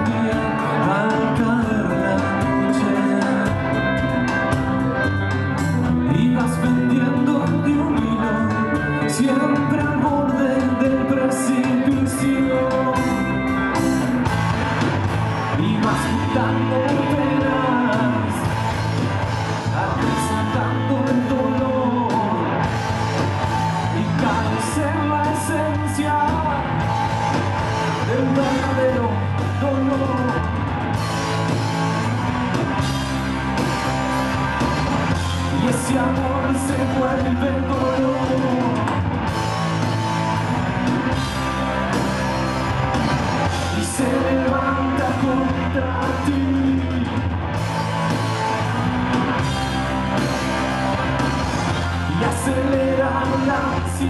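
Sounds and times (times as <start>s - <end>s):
lead singer singing: 0.0s - 54.0s
rock band playing live: 0.0s - 54.0s.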